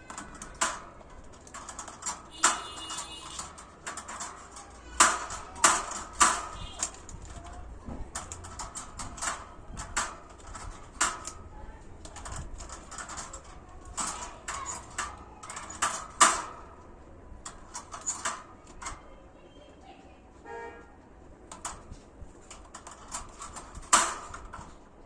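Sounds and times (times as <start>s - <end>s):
birds pecking at wire cage: 0.0s - 19.3s, 21.3s - 25.0s.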